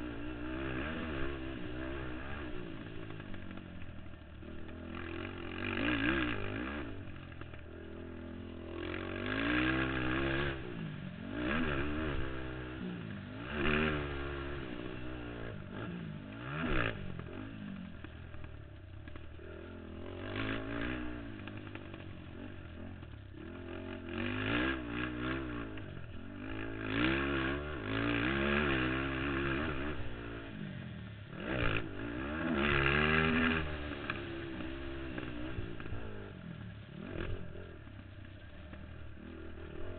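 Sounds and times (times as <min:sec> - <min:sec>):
quad engine revving: 0:00.0 - 0:03.7, 0:04.4 - 0:17.8, 0:19.4 - 0:38.4.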